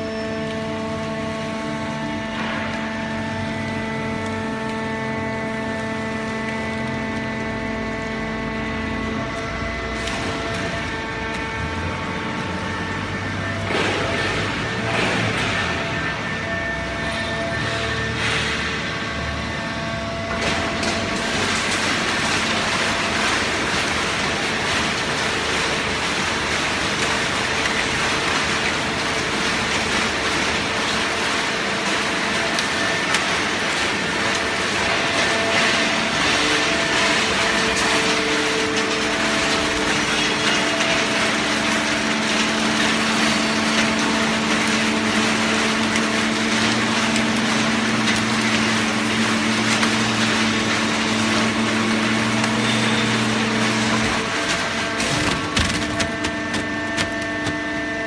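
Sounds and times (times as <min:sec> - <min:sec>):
baling press machine humming: 0:00.0 - 0:58.0.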